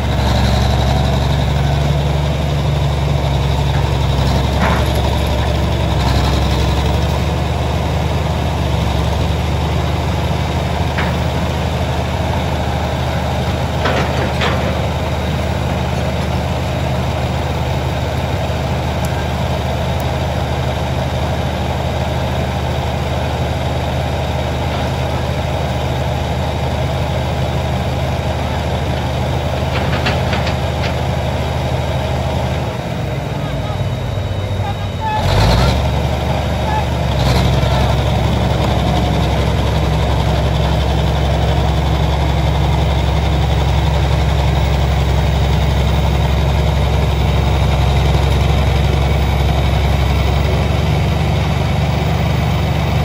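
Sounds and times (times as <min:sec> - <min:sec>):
diesel engine humming: 0:00.0 - 0:53.0.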